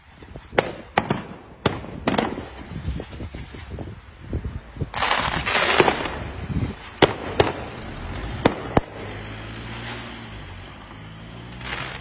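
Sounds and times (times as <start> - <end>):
fireworks crackling: 0.0 - 12.0
fireworks bangs: 0.2 - 12.0.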